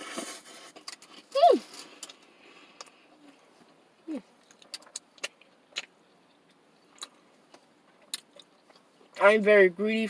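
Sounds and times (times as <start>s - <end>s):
chewing and food handling: 0.0s - 9.2s.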